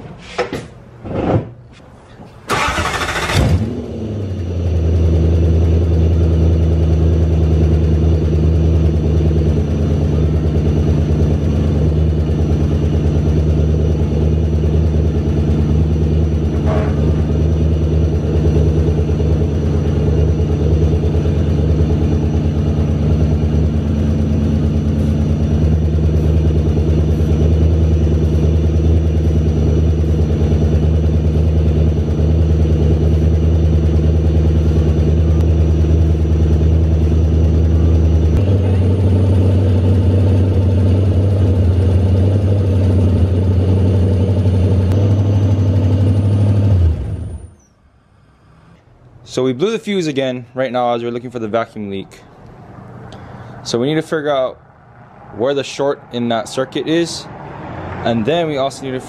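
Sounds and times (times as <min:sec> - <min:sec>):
car engine idling: 0:02.4 - 0:49.5, 0:50.1 - 0:59.0.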